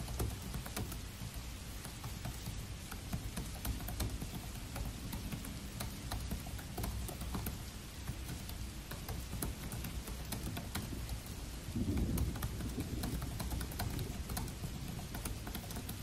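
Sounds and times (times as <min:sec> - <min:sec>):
laptop keyboard typing: 0:00.0 - 0:16.0
rain hiss: 0:00.0 - 0:16.0.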